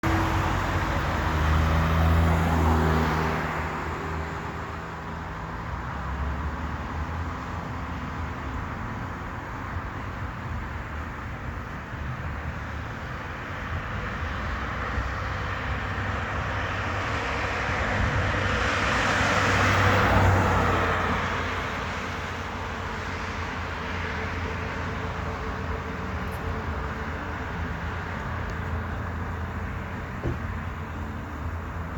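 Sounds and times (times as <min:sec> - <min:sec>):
vehicles driving past: 0:00.0 - 0:31.9.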